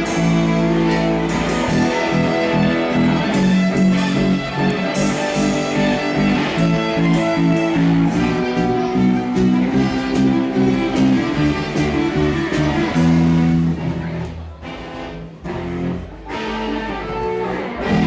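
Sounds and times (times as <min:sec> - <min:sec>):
band playing guitar music: 0:00.0 - 0:18.0.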